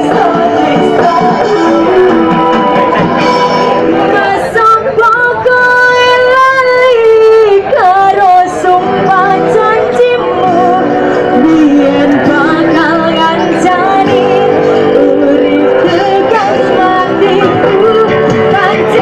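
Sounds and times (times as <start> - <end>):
loud music through sound system: 0.0 - 5.4, 8.1 - 19.0.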